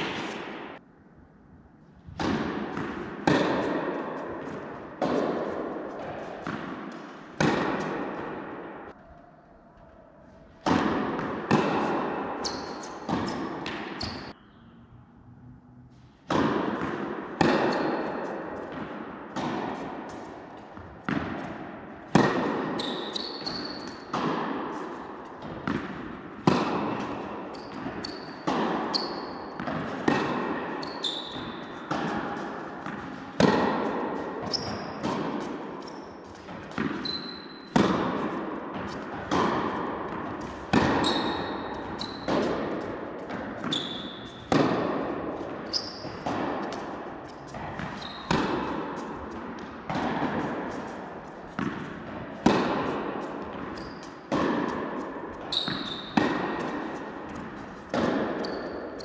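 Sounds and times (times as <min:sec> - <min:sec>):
tennis ball hits echoing: 0:00.0 - 0:00.8, 0:02.1 - 0:09.0, 0:10.4 - 0:14.4, 0:16.2 - 0:59.0.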